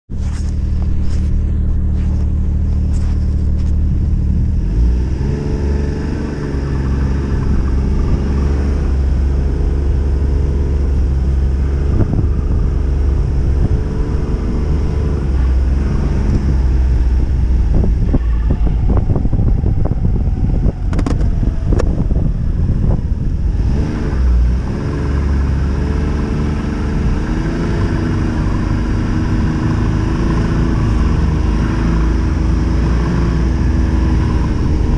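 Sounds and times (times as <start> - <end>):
snowmobile engine: 0.1 - 34.9.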